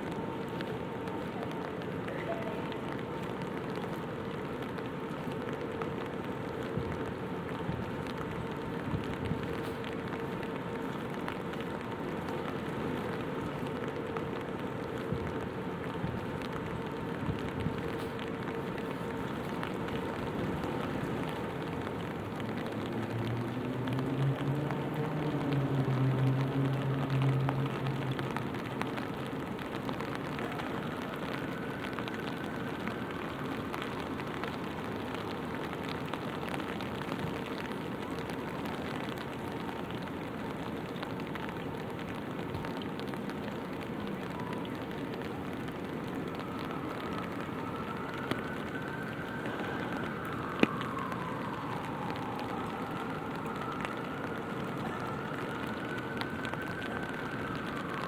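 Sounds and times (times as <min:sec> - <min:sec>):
rain pattering on an umbrella: 0:00.0 - 0:58.0.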